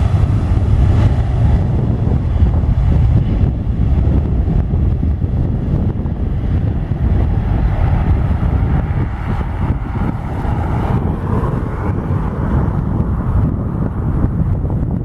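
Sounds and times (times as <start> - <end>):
jet engines at takeoff thrust: 0.0 - 15.0
wind rumble on microphone: 0.0 - 15.0.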